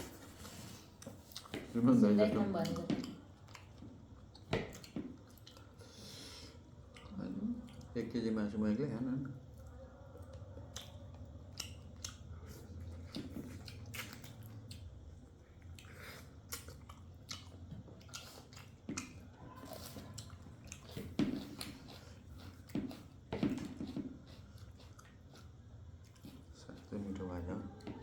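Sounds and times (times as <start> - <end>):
chewing food: 0.0 - 8.4, 9.1 - 28.0.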